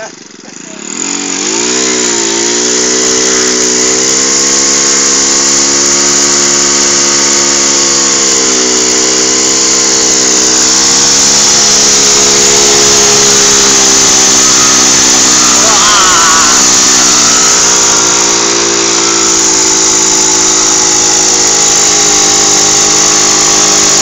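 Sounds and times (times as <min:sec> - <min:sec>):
small engine at high revs: 0:00.0 - 0:24.0
steady loud hiss: 0:00.6 - 0:24.0.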